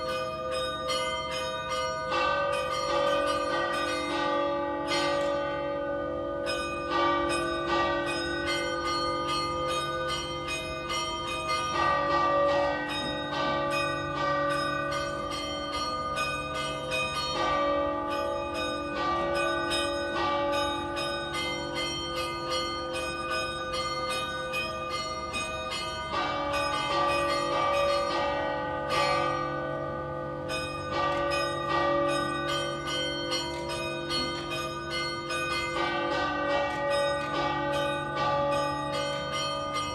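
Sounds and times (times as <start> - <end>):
tower bells ringing a peal: 0.0 - 39.9.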